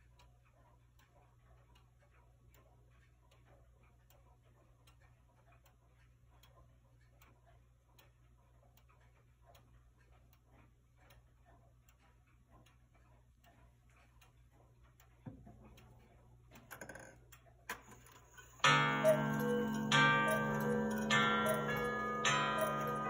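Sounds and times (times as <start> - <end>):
clock ticking: 0.0 - 23.0
clock hands scraping and clicking: 0.1 - 23.0.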